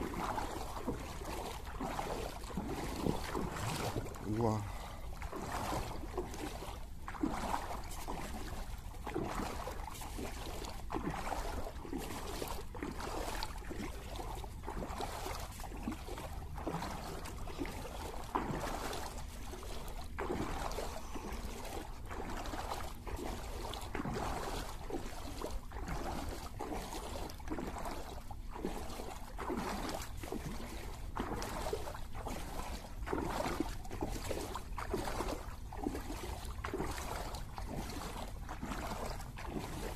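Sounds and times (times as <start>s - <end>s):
floodwater sloshing and splashing: 0.0s - 39.9s.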